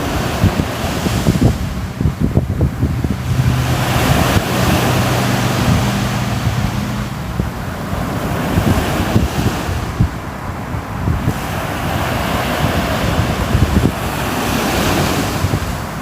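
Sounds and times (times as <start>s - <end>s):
wave washing in: 0.0s - 16.0s
wind buffeting microphone: 0.0s - 16.0s.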